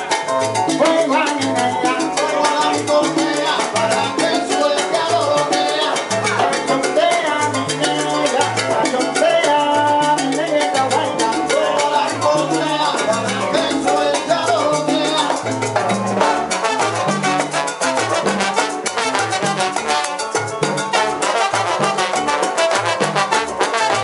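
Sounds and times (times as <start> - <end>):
live salsa band: 0.0 - 24.0
trombone: 0.0 - 24.0.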